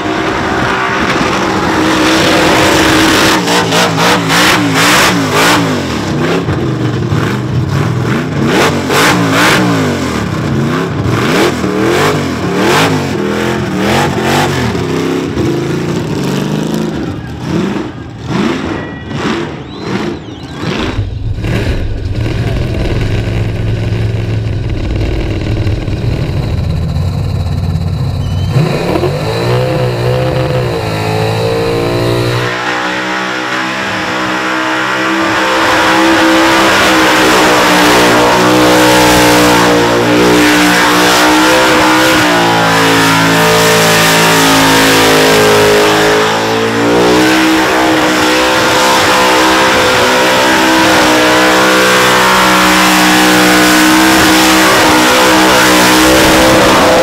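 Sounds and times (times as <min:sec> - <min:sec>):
car engine revving hard: 0:00.0 - 0:27.2, 0:28.5 - 0:57.0.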